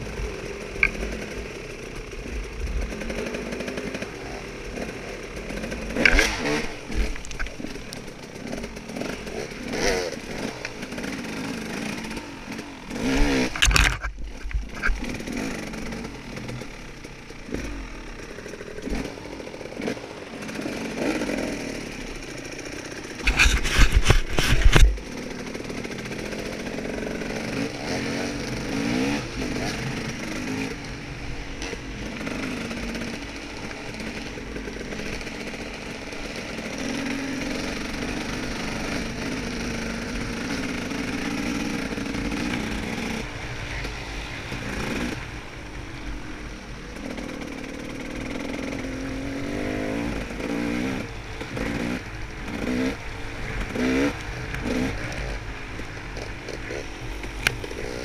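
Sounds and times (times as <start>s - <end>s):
dirt bike engine revving: 0.0s - 14.0s, 14.6s - 58.0s.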